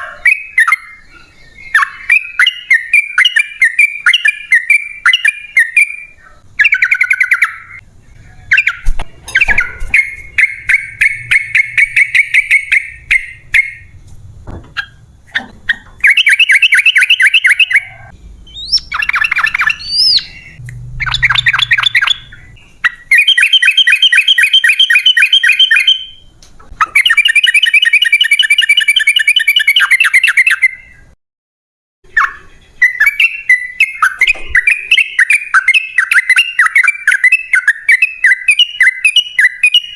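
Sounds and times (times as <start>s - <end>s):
bird singing rapid chattering notes: 0.1s - 14.0s, 14.8s - 31.0s, 32.1s - 39.9s.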